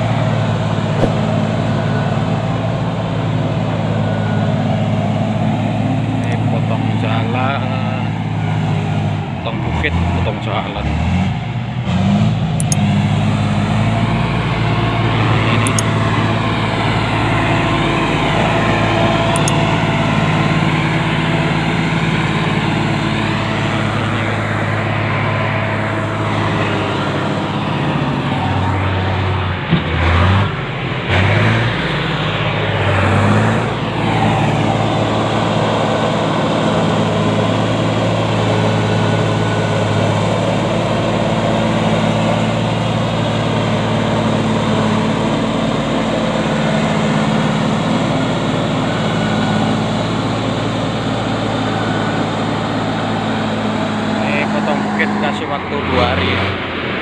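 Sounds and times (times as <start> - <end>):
heavy diesel machinery engines: 0.0 - 57.0.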